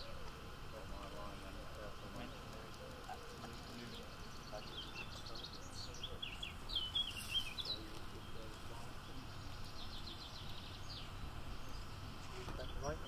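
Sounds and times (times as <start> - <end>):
small birds singing: 0.0 - 13.0.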